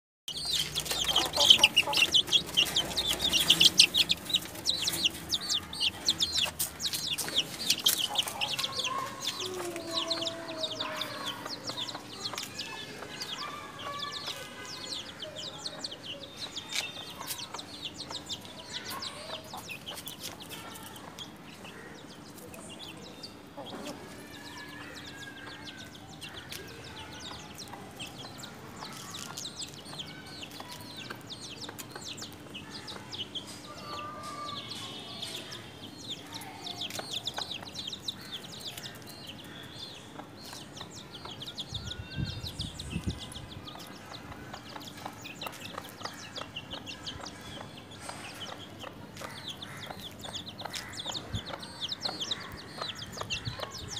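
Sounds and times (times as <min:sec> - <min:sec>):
flock of birds chirping: 0:00.3 - 0:53.9.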